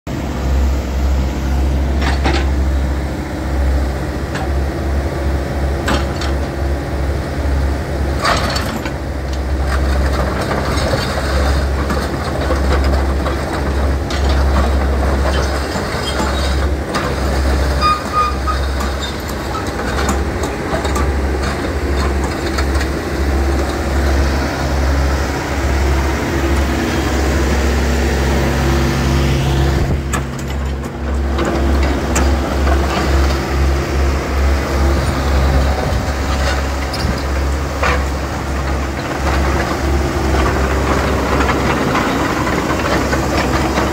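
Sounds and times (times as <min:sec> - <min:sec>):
excavator diesel engine running: 0:00.1 - 0:43.9
steel tracks clanking: 0:08.0 - 0:43.9.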